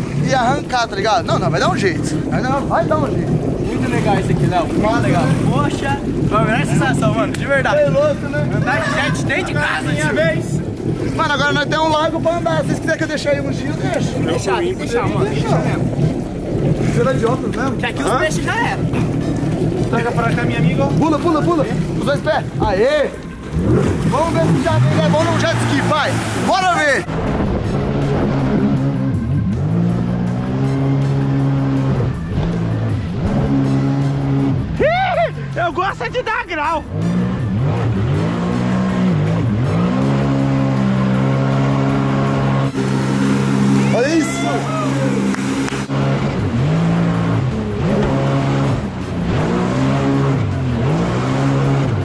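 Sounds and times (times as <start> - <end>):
jet ski engine: 0.0 - 52.0
water rushing past hull: 0.0 - 52.0.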